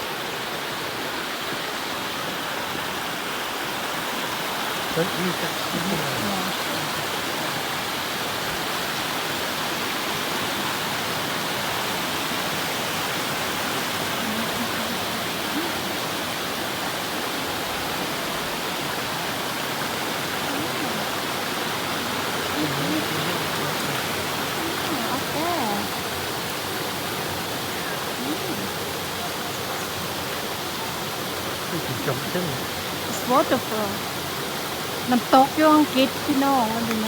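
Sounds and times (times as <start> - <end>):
waterfall pouring: 0.0 - 37.0.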